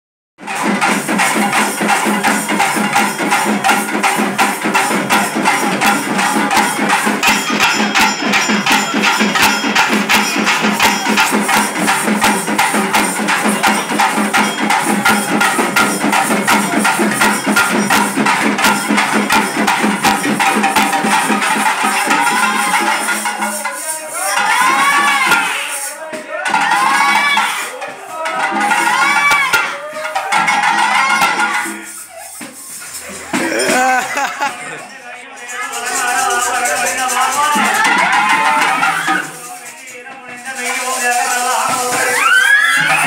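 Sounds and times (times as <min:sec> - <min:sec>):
frame drums beaten fast: 0:00.4 - 0:34.8, 0:35.6 - 0:43.0.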